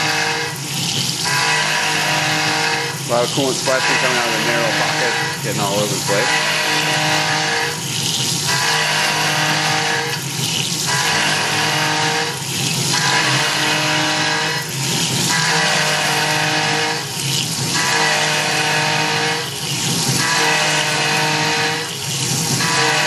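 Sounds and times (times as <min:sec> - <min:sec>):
coolant splashing: 0:00.0 - 0:23.0
end mill cutting metal: 0:00.0 - 0:23.0
mill spindle whine: 0:00.0 - 0:23.0.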